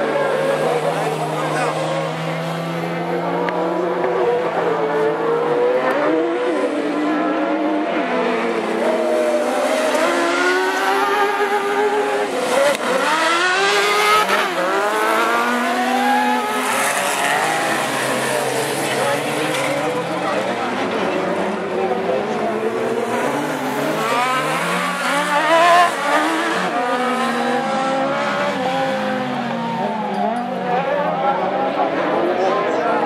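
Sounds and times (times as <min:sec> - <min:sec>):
racing engines revving: 0:00.0 - 0:33.0.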